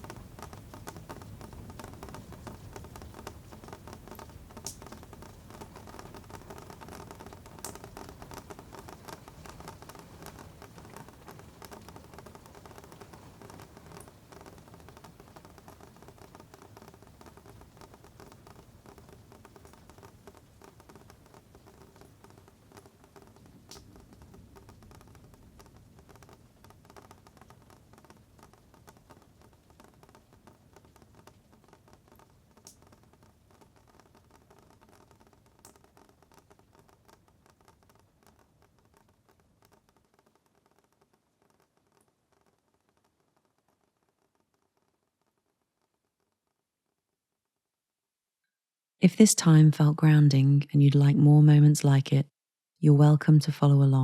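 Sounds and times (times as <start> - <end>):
rain pattering: 0.0 - 46.6.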